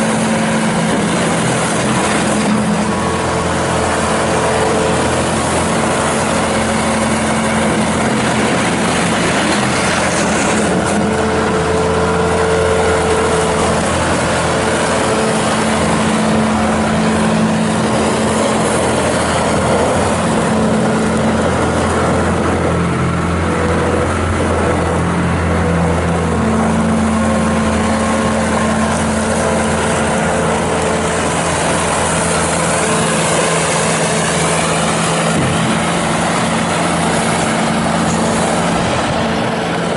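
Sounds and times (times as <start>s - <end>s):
diesel loader engine running: 0.0s - 39.9s.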